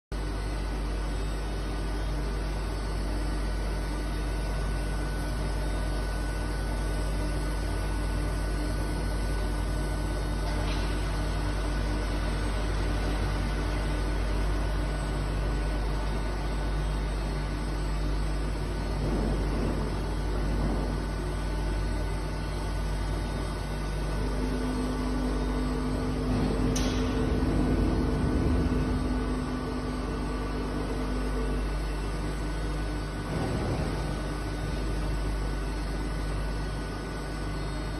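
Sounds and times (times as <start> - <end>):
machining center mechanical hum: 0.1 - 37.9.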